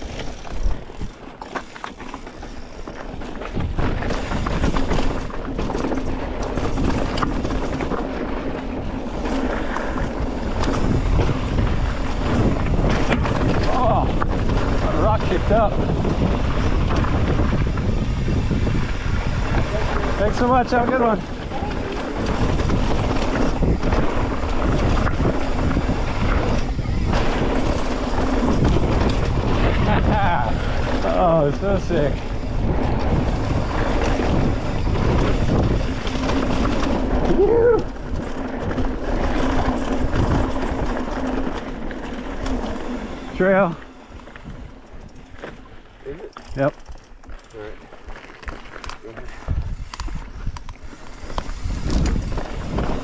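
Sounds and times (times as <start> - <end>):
bike tyres clicking over rock: 0.0 - 53.0
wind buffeting microphone: 2.4 - 48.5, 49.1 - 53.0.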